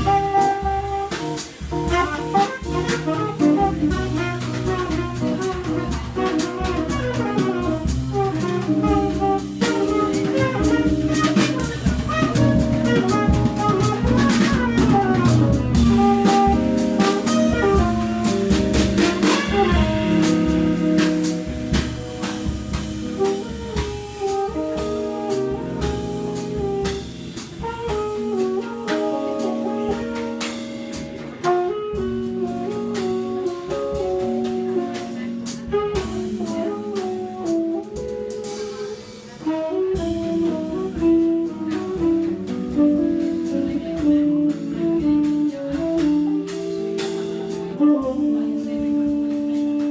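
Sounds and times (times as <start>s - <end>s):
drum kit with cymbals: 0.0s - 49.9s
tenor saxophone melody: 0.0s - 49.9s.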